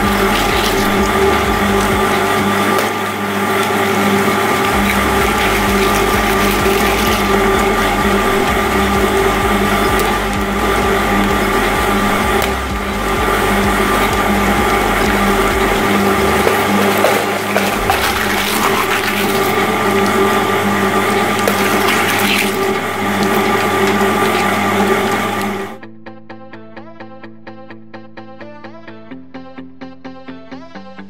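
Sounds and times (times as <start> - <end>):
eggshells cracking: 0.0 - 12.8, 13.5 - 25.6
shredder motor hum and whine: 0.0 - 25.8.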